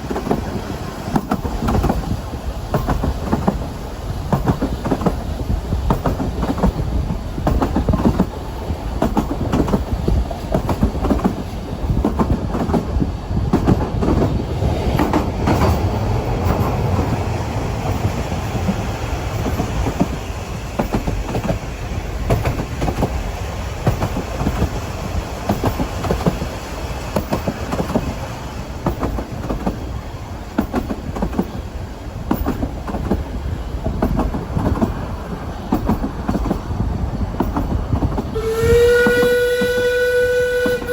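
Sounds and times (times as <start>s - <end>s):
train running with low rumble: 0.0s - 40.9s
wheels clattering on track: 0.0s - 40.9s.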